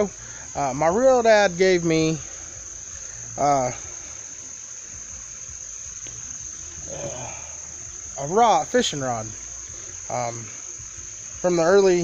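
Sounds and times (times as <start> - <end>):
insects calling: 0.0 - 12.0.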